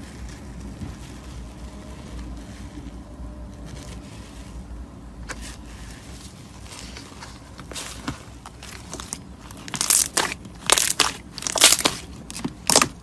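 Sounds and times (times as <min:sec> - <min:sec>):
slime squishing and crackling: 0:00.0 - 0:13.0.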